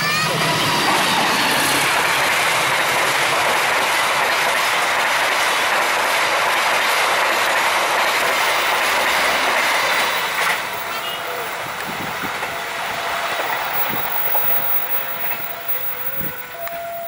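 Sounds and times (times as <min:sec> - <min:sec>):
train wheels rushing on rails: 0:00.0 - 0:17.0
clickety-clack of rail joints: 0:00.2 - 0:17.0.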